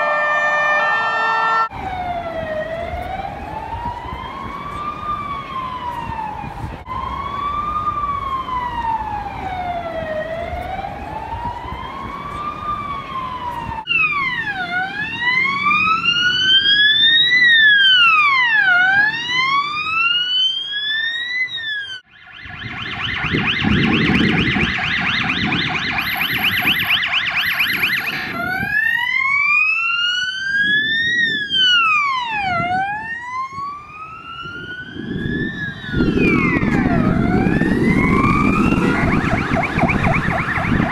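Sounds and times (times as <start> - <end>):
police car siren: 0.0 - 40.9.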